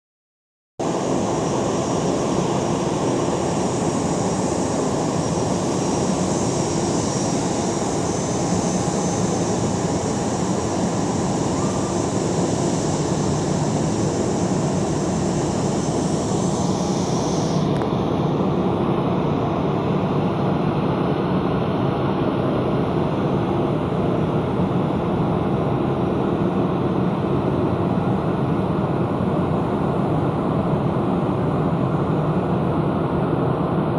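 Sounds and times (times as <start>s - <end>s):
jet engines running: 0.8s - 33.9s.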